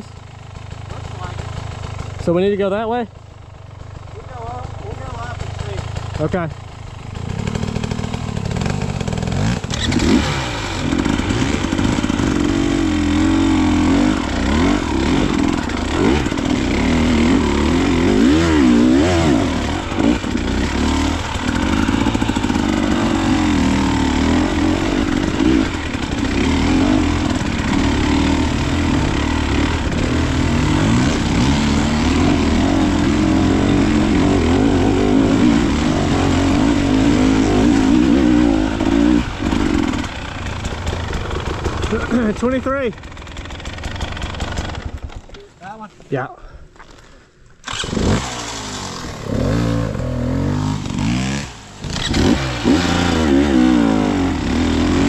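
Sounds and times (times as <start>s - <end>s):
dirt bike engine revving: 0.0s - 45.4s, 47.6s - 55.0s.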